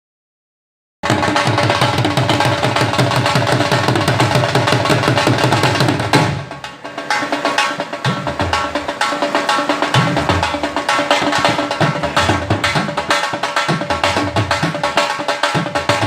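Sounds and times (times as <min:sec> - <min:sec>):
background music with fast drumming: 0:01.0 - 0:16.0
deep drum notes: 0:01.0 - 0:16.0.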